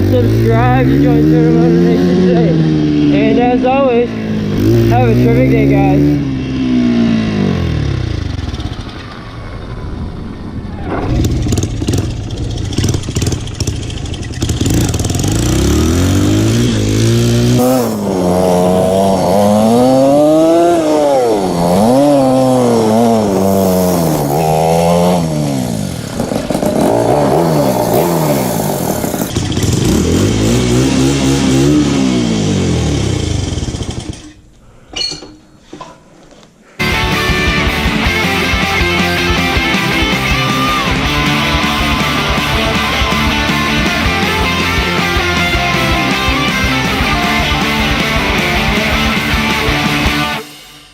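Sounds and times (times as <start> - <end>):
dirt bike engine revving: 0.0 - 34.5, 36.8 - 50.9.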